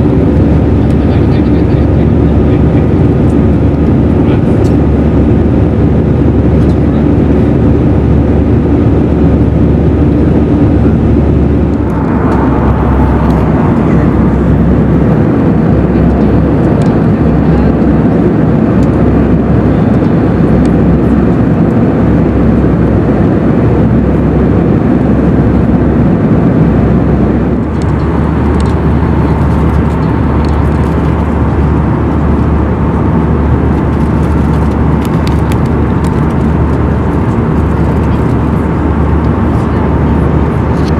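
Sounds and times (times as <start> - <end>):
jet engine cabin roar: 0.0 - 40.9.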